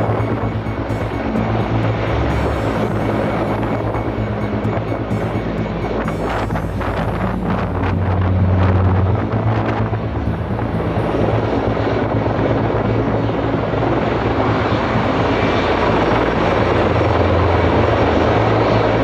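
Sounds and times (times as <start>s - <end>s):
helicopter engines and rotors: 0.0s - 19.0s.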